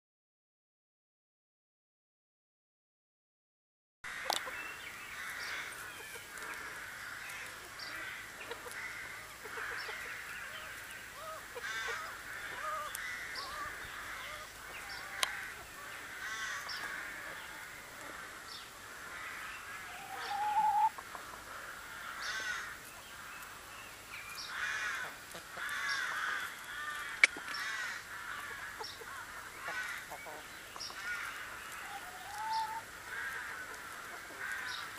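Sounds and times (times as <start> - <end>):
hens clucking: 4.2 - 23.1, 25.0 - 34.9.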